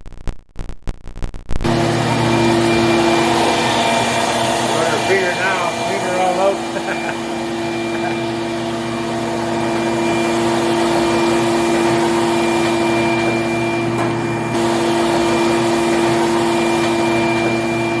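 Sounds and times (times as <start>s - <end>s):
electric motor hum: 1.5s - 18.0s.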